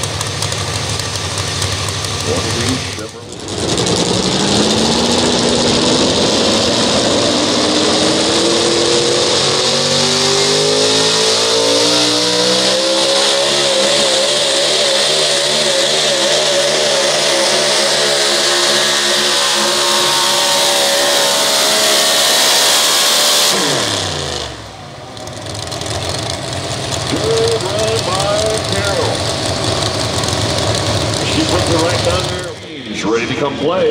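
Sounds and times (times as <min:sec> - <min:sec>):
truck engine at full throttle: 0:00.0 - 0:33.9.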